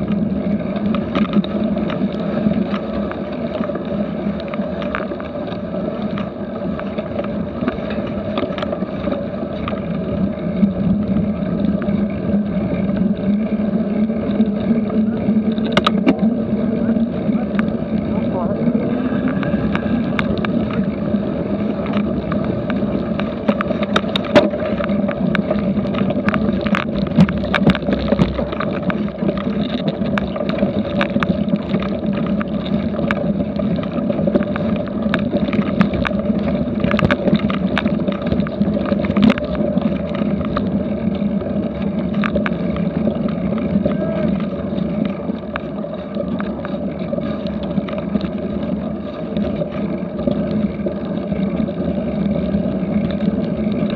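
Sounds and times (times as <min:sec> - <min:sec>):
bike clicks and knocks over bumps: 0:00.0 - 0:53.9
rumble of bike tyres and frame: 0:00.0 - 0:53.9.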